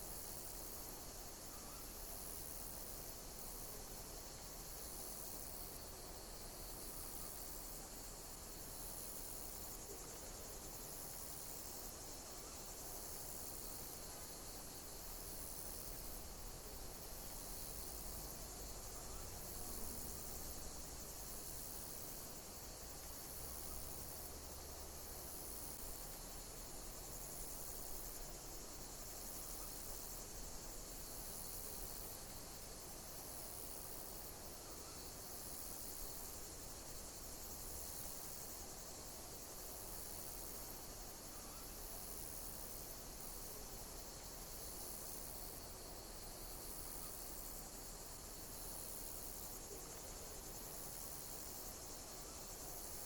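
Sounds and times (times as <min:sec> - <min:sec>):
insects chirping: 0:00.0 - 0:53.0
low hiss: 0:00.0 - 0:53.0.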